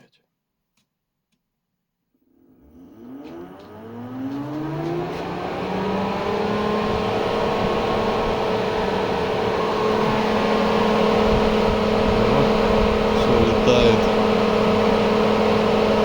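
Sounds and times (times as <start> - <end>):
electric fan motor whine: 2.2 - 16.0.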